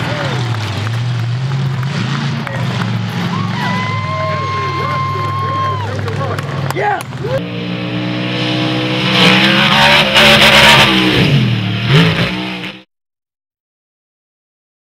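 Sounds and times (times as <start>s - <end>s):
monster truck engine running hard: 0.0s - 12.9s.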